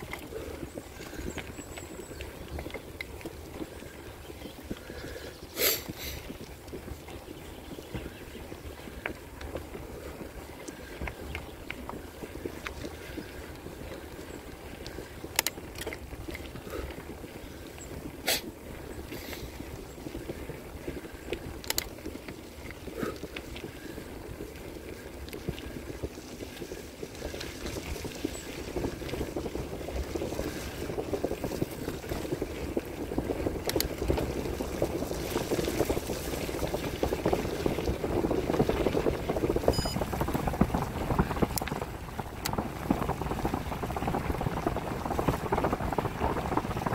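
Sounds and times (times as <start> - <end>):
bike clicks: 0.0 - 37.7, 39.6 - 43.5
bicycle tyres rolling on gravel: 0.0 - 46.9
wind noise on microphone: 0.0 - 46.9.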